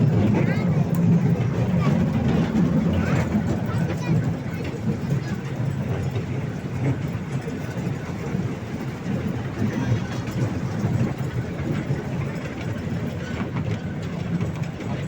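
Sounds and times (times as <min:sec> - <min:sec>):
toy train rumbling on track: 0:00.0 - 0:15.0.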